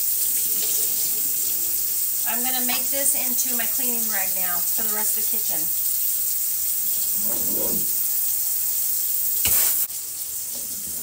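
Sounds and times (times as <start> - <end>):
faucet running into sink: 0.0 - 11.0.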